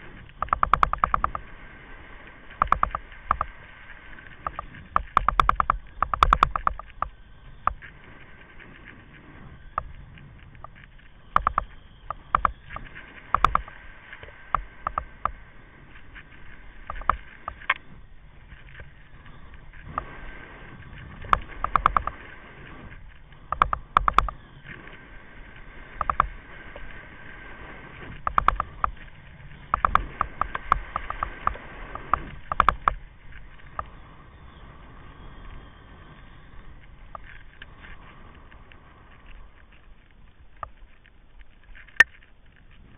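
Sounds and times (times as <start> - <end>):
kite buggy rattling and knocking: 0.0 - 1.6, 2.4 - 38.2
steady wind noise: 0.0 - 42.9
wheels rolling on sand: 0.0 - 42.9.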